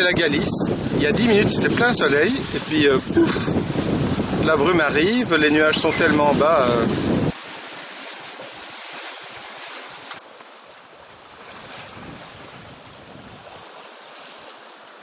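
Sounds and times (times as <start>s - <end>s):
wind buffeting microphone: 0.0s - 10.1s, 11.2s - 13.9s
sea water rushing: 0.0s - 15.0s.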